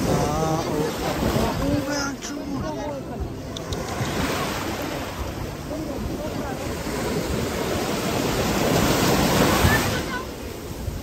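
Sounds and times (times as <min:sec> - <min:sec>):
sea waves breaking on rocky shore: 0:00.0 - 0:02.8, 0:03.7 - 0:11.0
wind buffeting microphone: 0:00.0 - 0:11.0.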